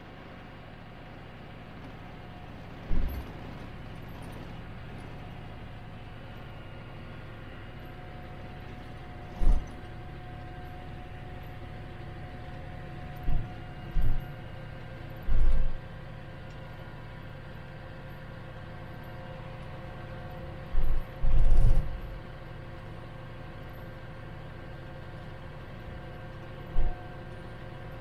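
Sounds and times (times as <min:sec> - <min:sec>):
faint steady whine: 0:00.0 - 0:28.0
tractor engine running: 0:00.0 - 0:28.0.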